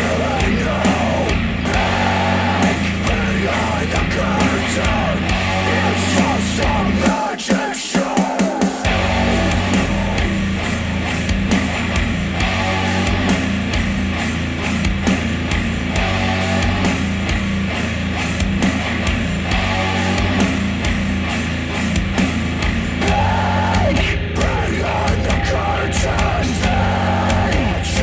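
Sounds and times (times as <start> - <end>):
rock music with drum beat: 0.0 - 28.0.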